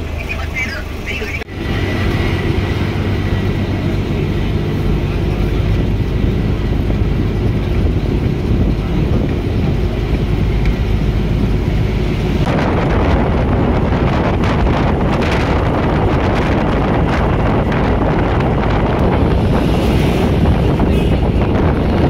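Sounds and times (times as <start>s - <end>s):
bus engine and road noise: 0.0s - 22.0s
wind buffeting microphone: 1.4s - 22.0s.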